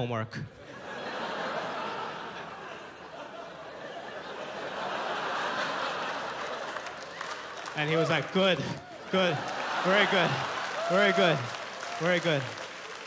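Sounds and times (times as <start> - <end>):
audience laughing: 0.6 - 12.5.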